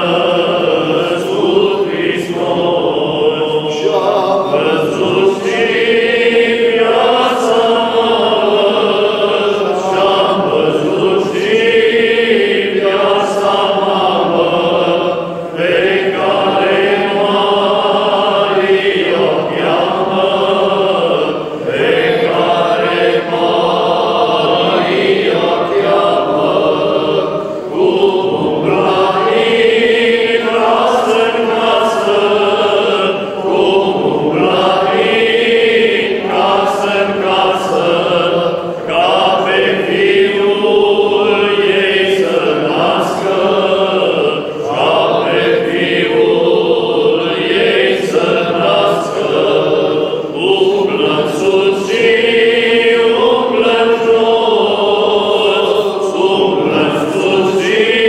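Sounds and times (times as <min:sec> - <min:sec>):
men chanting unaccompanied: 0:00.0 - 0:58.0.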